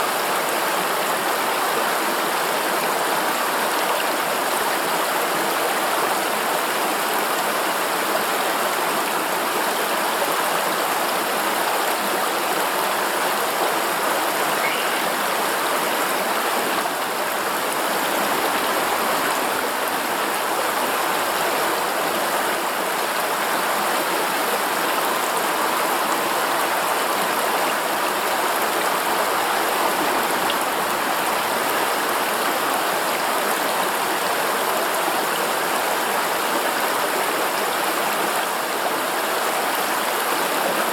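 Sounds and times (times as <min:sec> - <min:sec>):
water rushing over stones: 0:04.9 - 0:40.9.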